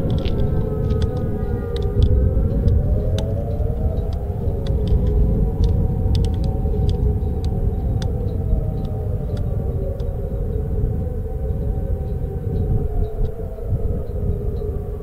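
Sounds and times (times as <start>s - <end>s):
distant warning sirens wailing: 0.0s - 15.0s
steady low rumble: 0.0s - 15.0s.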